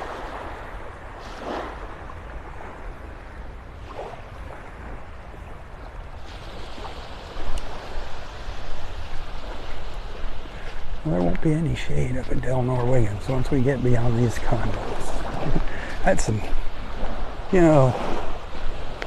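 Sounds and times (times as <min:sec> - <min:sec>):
surf washing onto sand beach: 0:00.0 - 0:19.0
wind rumbling on microphone: 0:00.0 - 0:19.0.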